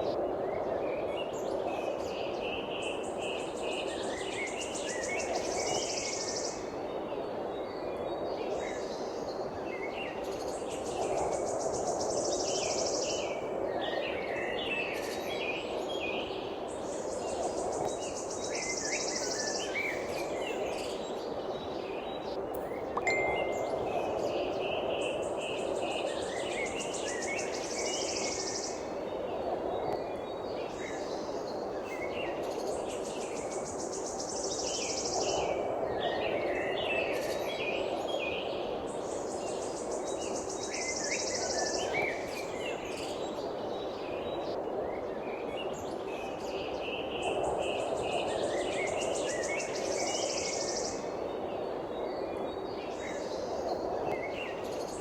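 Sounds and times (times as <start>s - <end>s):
birds chirping and tweeting: 0.0s - 55.0s.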